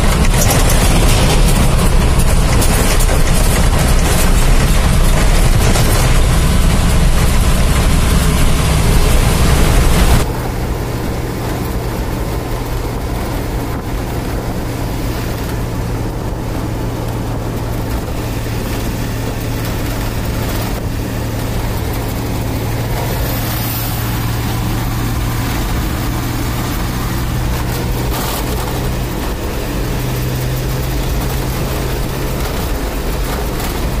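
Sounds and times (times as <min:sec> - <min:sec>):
road and wind noise: 0:00.0 - 0:34.0
vehicle engine hum: 0:00.0 - 0:34.0.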